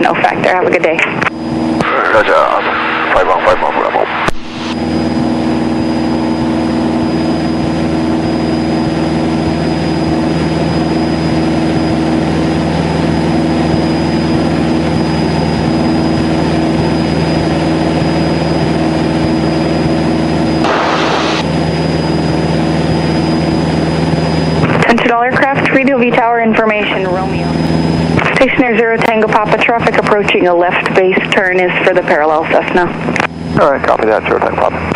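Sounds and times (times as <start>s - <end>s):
aircraft engine and propeller droning: 0.0s - 34.9s
thin high whine: 0.0s - 34.9s.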